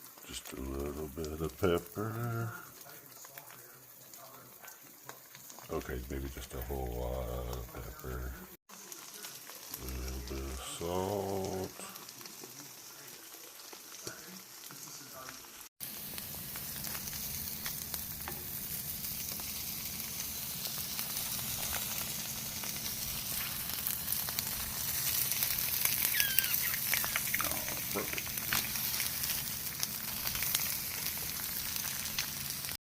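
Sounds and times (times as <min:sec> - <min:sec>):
eggs sizzling in a pan: 0:00.0 - 0:32.8.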